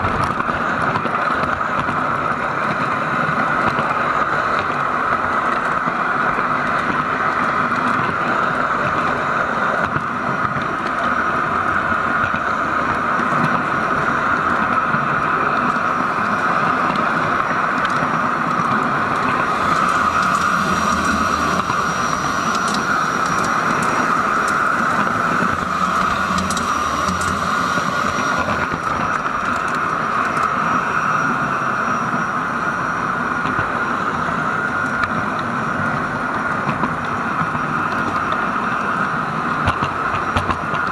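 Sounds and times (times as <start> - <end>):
model train rolling and whirring: 0.0 - 40.9.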